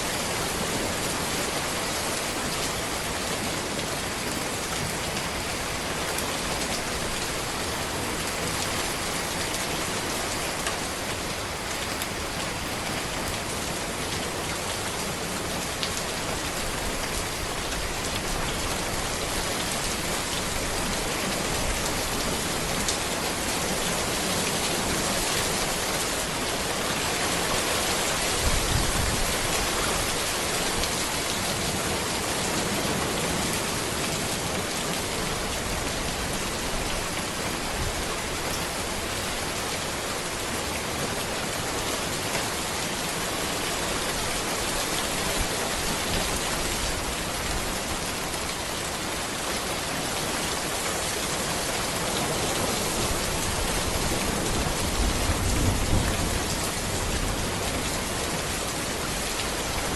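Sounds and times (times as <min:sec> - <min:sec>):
rain falling on road: 0:00.0 - 0:59.9.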